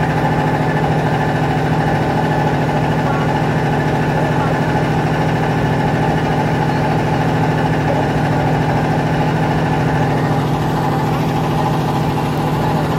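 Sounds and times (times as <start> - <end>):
boat engine running: 0.0 - 12.9.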